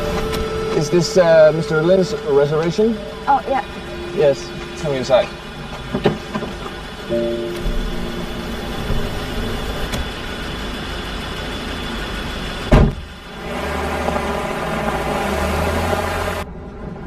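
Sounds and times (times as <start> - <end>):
vehicle running noise: 0.0 - 17.0.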